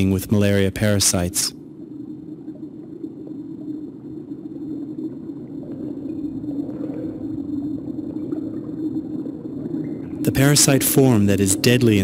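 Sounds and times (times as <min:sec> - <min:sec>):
low rumbling drone: 0:00.0 - 0:12.0.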